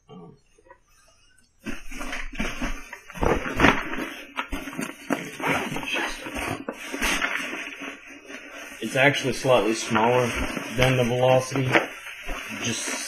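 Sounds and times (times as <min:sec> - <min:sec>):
hand rummaging through fabric bag: 0:01.6 - 0:13.0.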